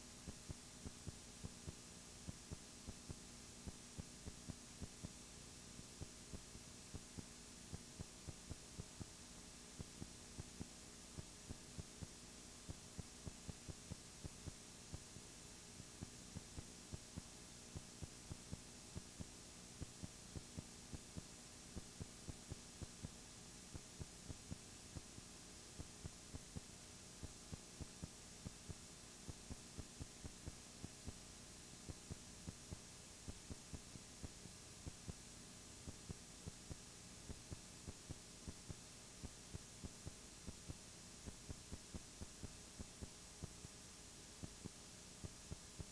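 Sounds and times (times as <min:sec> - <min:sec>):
faint electrical hum: 0:00.0 - 0:45.9.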